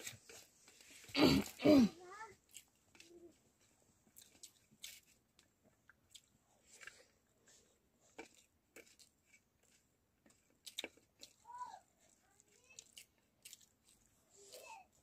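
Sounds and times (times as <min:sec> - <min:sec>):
chewing: 0:02.3 - 0:15.0.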